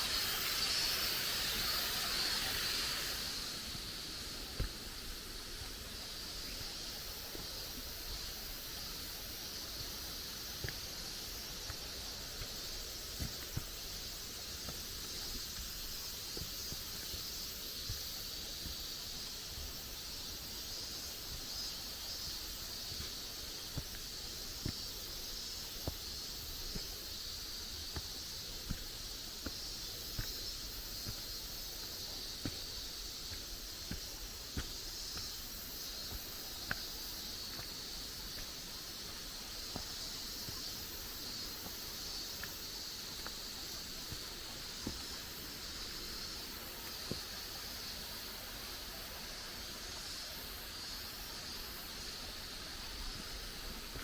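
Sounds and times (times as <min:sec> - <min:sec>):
insect chorus drone: 0:00.0 - 0:54.0
soft footfalls on trail: 0:01.6 - 0:47.9, 0:50.9 - 0:54.0.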